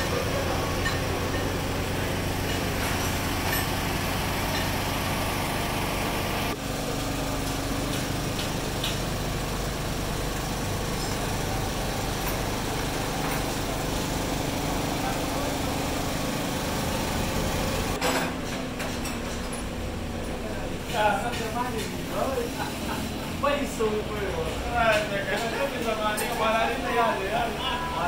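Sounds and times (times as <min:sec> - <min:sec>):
small engine running: 0:00.0 - 0:24.7.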